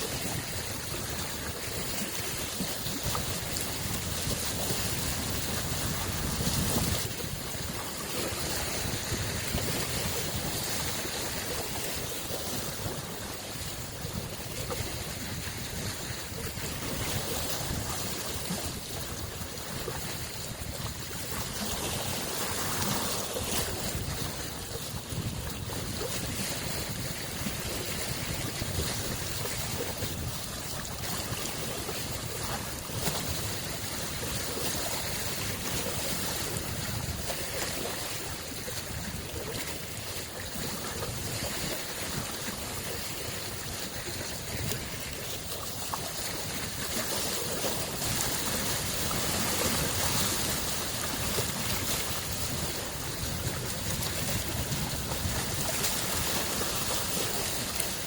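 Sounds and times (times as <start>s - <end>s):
small waves washing onto shore: 0.0s - 58.0s.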